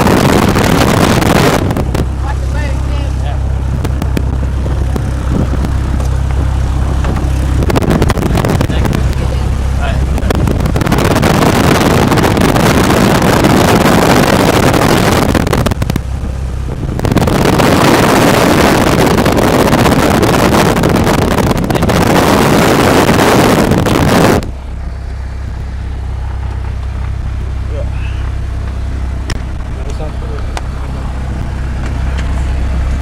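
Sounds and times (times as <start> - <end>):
air rushing across microphone: 0.0 - 29.9
propeller engine droning: 0.0 - 33.0.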